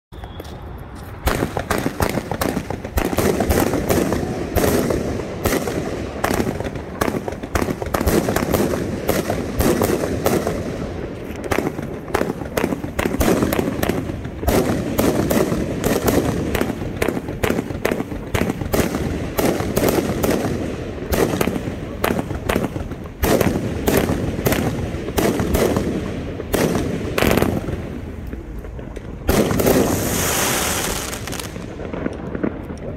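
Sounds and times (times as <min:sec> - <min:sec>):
fireworks shots and bursts: 0:01.1 - 0:32.9.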